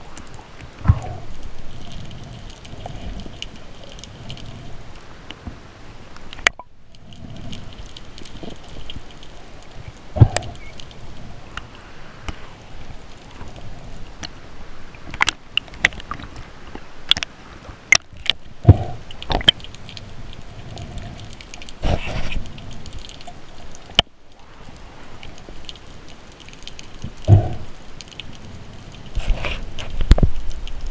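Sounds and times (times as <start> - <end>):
water sloshing and gurgling: 0.0 - 30.9.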